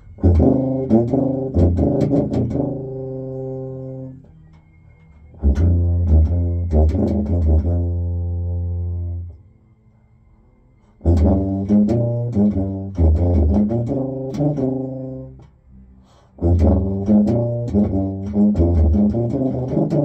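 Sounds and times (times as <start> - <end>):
tuba playing short notes: 0.0 - 4.3, 5.3 - 9.4, 11.0 - 15.6, 16.4 - 20.0.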